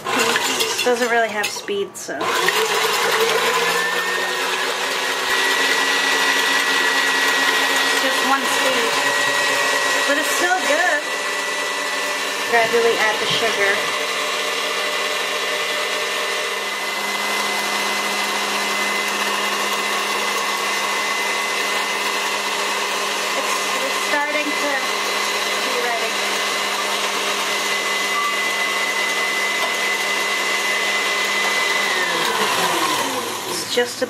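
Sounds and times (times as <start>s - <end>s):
stand mixer whirring: 0.0s - 1.5s, 2.2s - 34.0s.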